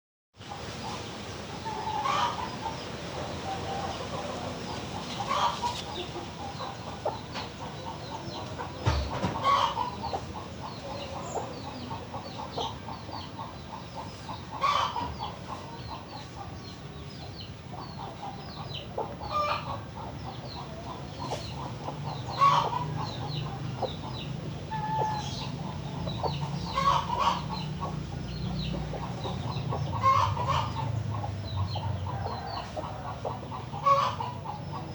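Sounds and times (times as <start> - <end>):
chicken clucking: 0.5 - 34.9.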